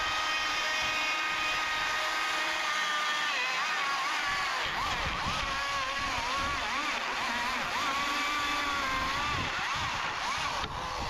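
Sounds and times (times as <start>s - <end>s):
chainsaw cutting board: 0.0s - 11.0s.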